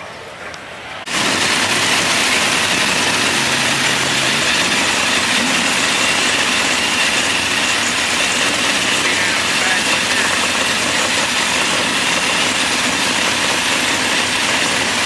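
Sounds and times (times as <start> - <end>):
car engine running loudly: 1.1 - 15.0.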